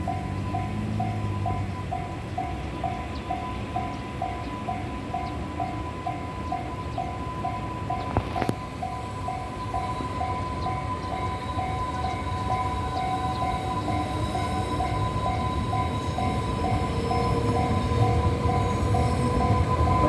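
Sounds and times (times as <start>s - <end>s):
freight train rumble: 0.0s - 20.0s.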